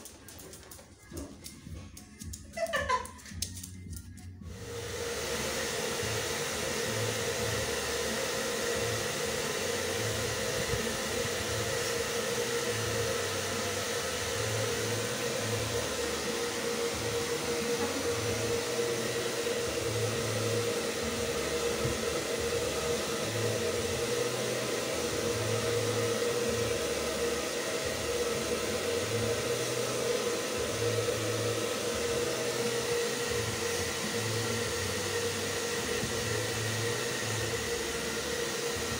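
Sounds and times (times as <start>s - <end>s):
hair dryer running: 1.5s - 38.9s.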